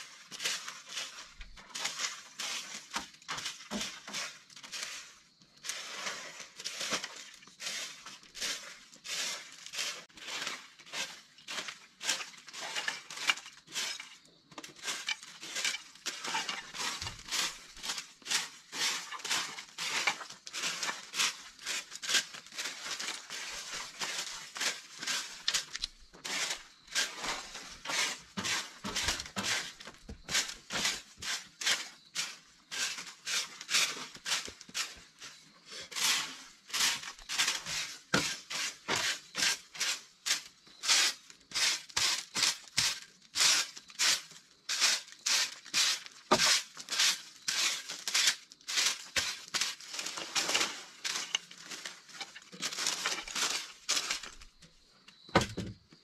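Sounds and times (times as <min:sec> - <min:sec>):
broom sweeping leaves: 0:00.0 - 0:54.6.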